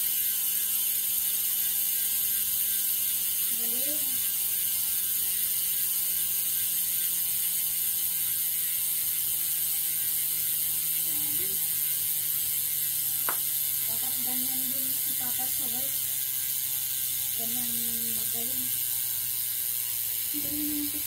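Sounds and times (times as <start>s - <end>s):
bicycle freehub ratcheting buzz: 0.0s - 21.0s.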